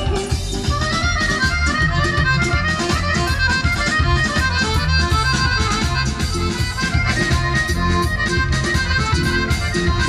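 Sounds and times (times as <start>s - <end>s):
accordion: 0.0s - 10.0s
clarinet: 0.0s - 10.0s
drum kit beat: 0.0s - 10.0s
folk dance music: 0.0s - 10.0s.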